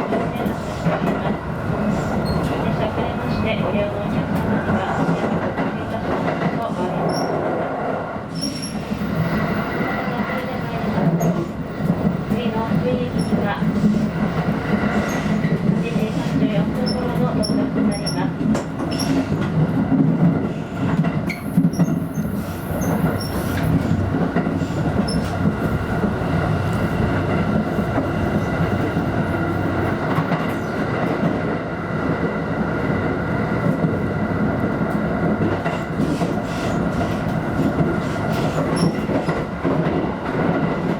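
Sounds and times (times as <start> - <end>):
clickety-clack of rails: 0.0 - 40.9
train wheels rumbling on track: 0.0 - 40.9.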